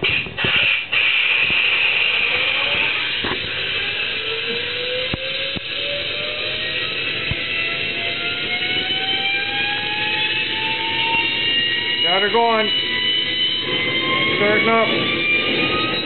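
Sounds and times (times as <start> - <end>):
jet turbine spooling up: 0.0 - 16.0.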